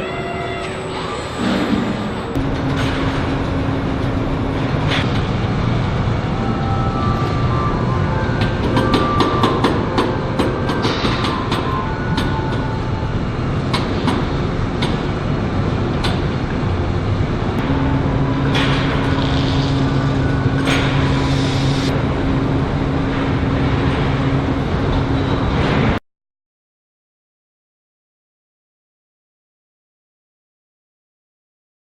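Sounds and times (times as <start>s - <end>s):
machinery rumble: 0.0s - 26.0s
steady hum: 0.0s - 26.0s.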